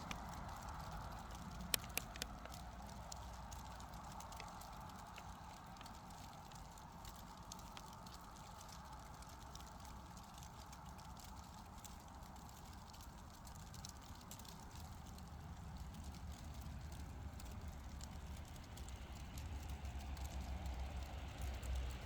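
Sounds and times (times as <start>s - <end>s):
faint crackling and popping: 0.0s - 22.0s.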